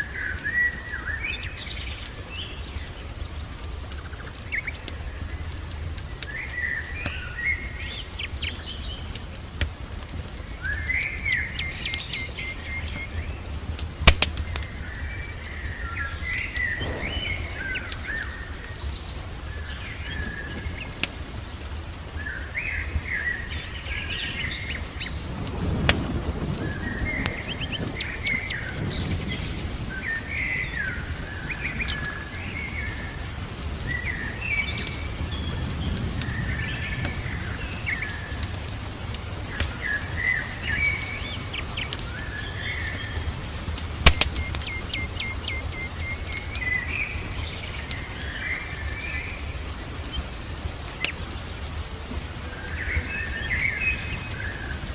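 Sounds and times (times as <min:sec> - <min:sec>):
fire pops: 0:00.0 - 0:54.9
fireplace crackling: 0:00.0 - 0:54.9
rain: 0:00.0 - 0:54.9
songbirds chirping: 0:00.0 - 0:54.9.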